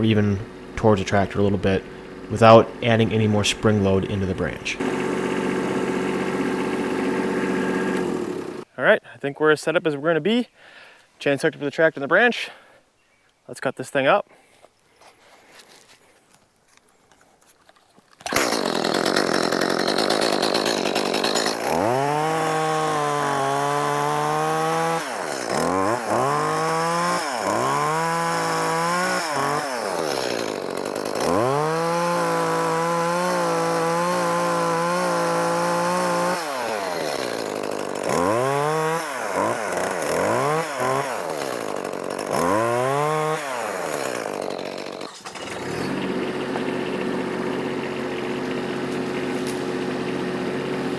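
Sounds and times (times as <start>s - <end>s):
chainsaw cutting branch: 0.0s - 8.7s, 18.1s - 50.9s.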